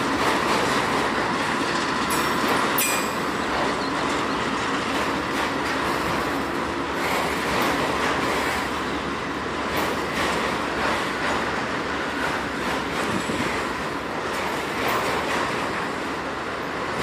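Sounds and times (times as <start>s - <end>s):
diesel locomotives working: 0.0s - 17.0s.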